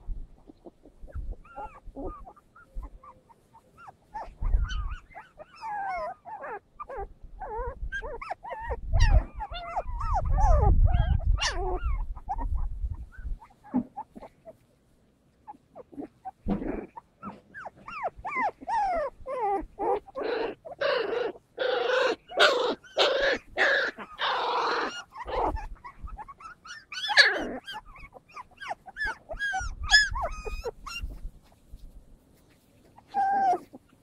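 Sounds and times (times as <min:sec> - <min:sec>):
puppies whimpering and yelping: 0:00.0 - 0:34.0.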